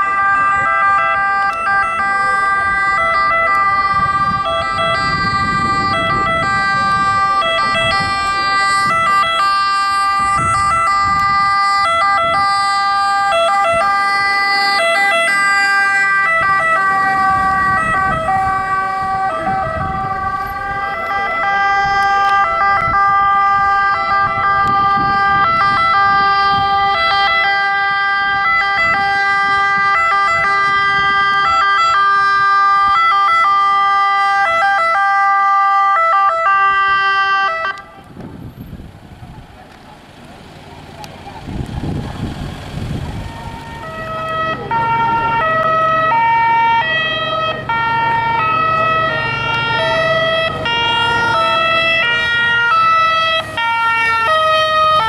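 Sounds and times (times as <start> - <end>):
two-tone ambulance siren: 0.0 - 38.7, 39.3 - 55.0.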